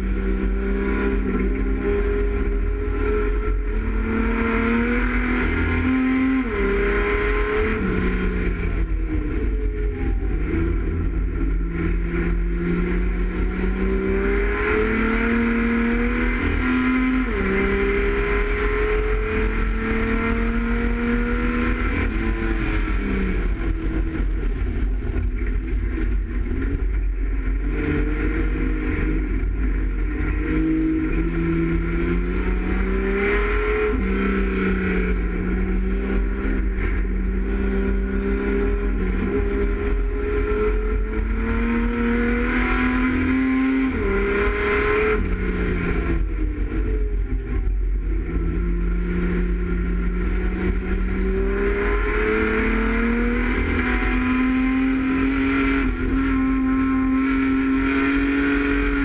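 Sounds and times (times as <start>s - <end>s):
constant low rumble: 0.0s - 59.0s
race car engine under load: 0.0s - 59.0s.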